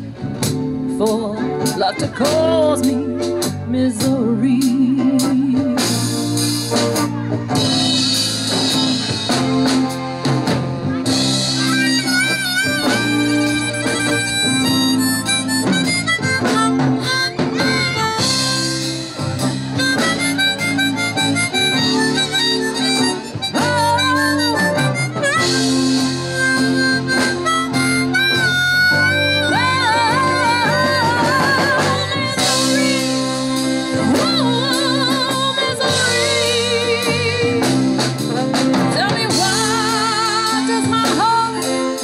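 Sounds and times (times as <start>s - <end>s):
band playing guitar bass and drums: 0.0s - 42.0s
harmonica solo: 6.4s - 42.0s.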